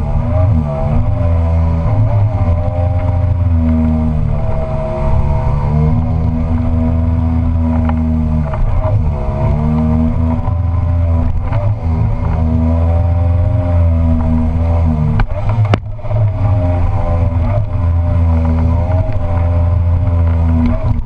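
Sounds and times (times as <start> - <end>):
outboard motor at high revs: 0.0 - 21.0.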